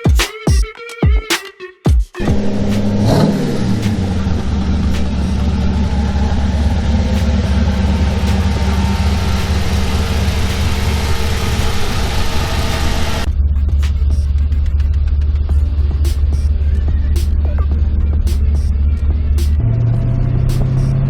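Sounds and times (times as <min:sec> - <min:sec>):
car engine running: 0:02.3 - 0:21.0.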